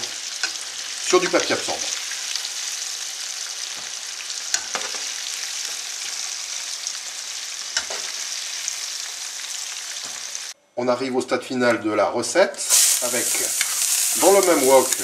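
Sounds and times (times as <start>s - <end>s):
hot oil sizzling: 0.0s - 10.6s, 12.6s - 15.0s.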